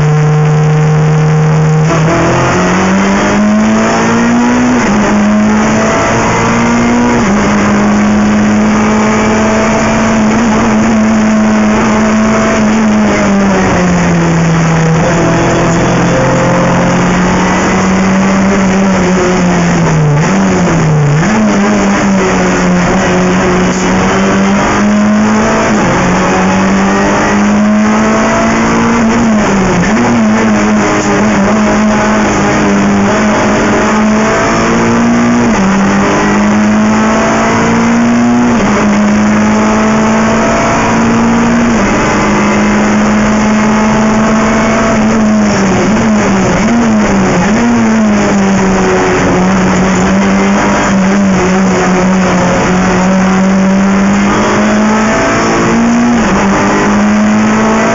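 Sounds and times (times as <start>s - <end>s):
race car engine at high revs: 0.0s - 57.9s.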